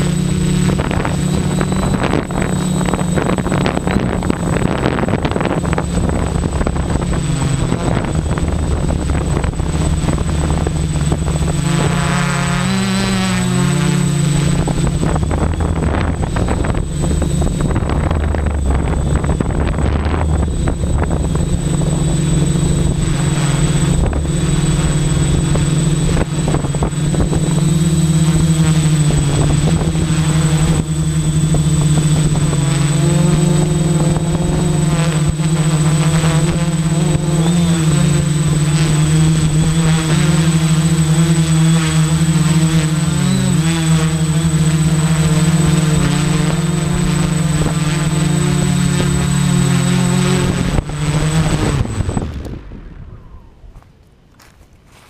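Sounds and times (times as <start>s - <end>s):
high-pitched whine: 0.0s - 55.0s
quadcopter motors humming: 0.0s - 55.0s.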